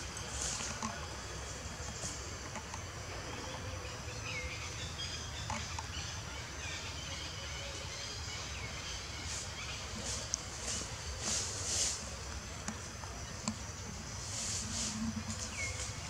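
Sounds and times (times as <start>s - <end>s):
low rumble and hiss: 0.0s - 16.0s.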